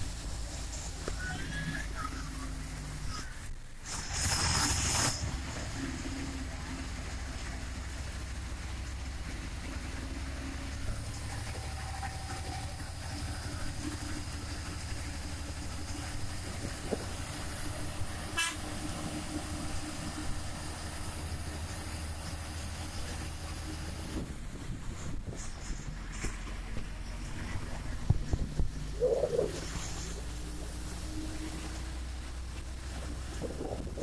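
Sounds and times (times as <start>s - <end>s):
hiss of rain and tyres: 0.0s - 34.0s
vehicle engine and road rumble: 0.0s - 34.0s.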